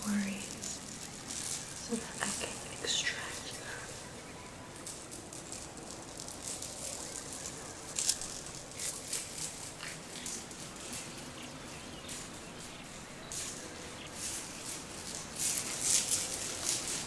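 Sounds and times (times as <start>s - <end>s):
close-up rustling and shaking: 0.0s - 17.0s
faint background ambience: 0.0s - 17.0s.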